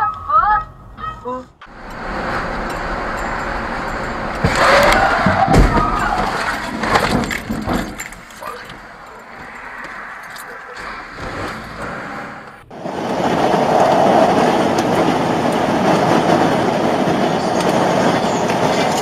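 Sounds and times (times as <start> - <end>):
vehicle driving at highway speed: 1.6 - 19.0.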